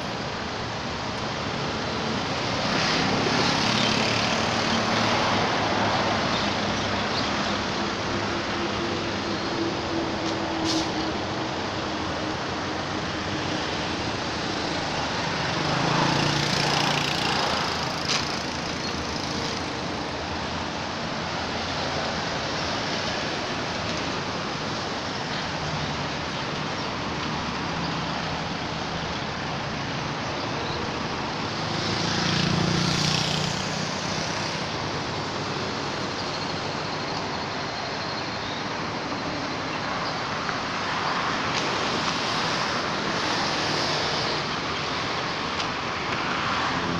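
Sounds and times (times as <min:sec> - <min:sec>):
background traffic noise: 0:00.0 - 0:46.9.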